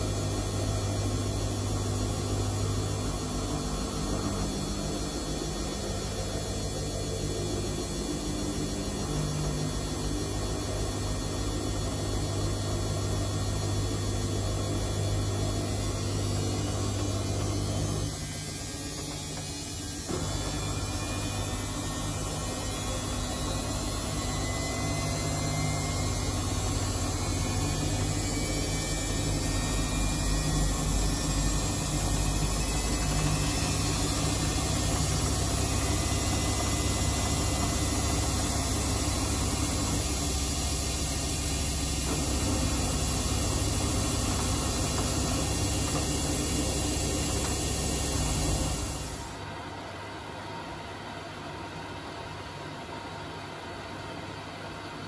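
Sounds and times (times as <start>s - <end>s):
washing machine drum motor humming: 0.0s - 50.0s.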